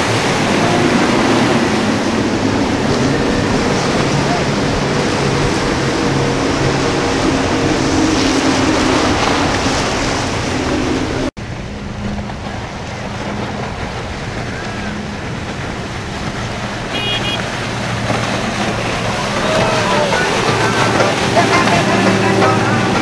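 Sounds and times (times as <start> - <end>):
outboard motors running at speed: 0.0 - 23.0
quieter outboard motor: 0.0 - 23.0.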